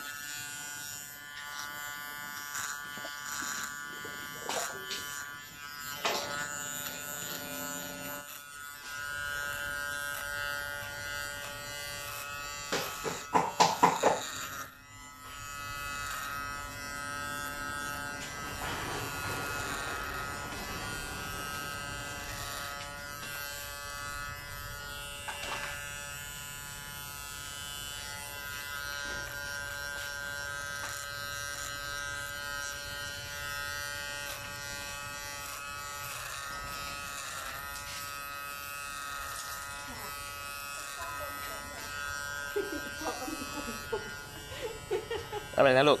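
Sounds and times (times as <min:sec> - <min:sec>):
electric hair clipper buzzing: 0:00.0 - 0:46.0.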